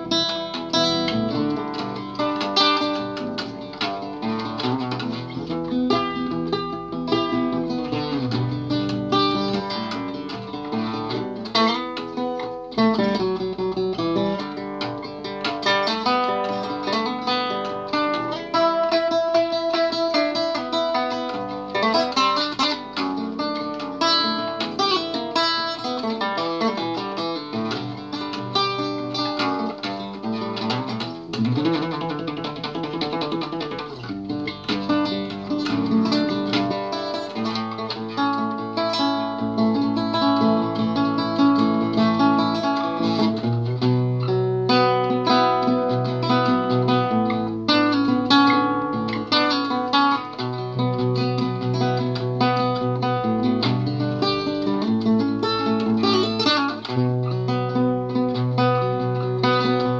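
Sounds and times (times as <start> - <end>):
classical guitar playing: 0.0 - 59.9.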